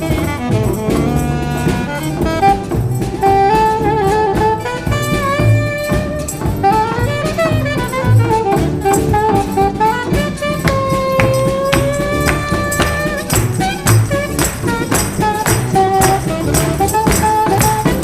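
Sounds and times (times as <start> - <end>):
instrumental melody over beat: 0.0 - 18.0.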